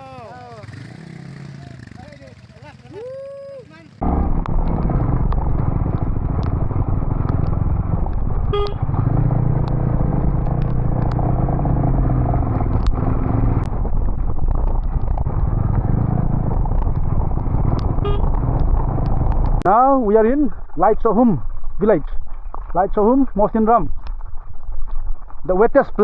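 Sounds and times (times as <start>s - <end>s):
motorcycle engine running: 0.0s - 26.0s
wind rush on microphone: 4.0s - 19.7s, 20.3s - 26.0s.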